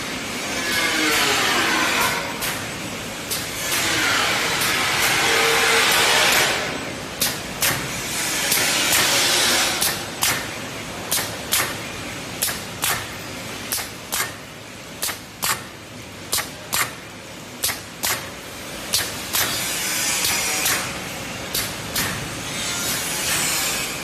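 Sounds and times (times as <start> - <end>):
machine running noise: 0.0 - 24.0.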